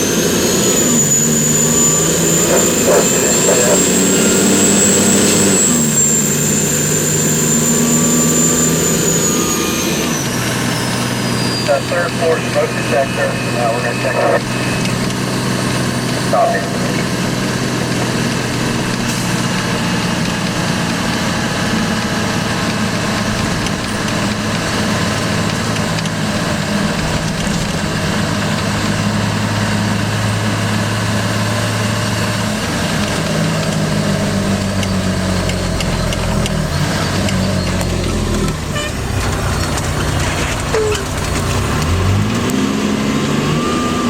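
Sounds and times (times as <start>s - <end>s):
fire engine engine running: 0.0s - 44.0s.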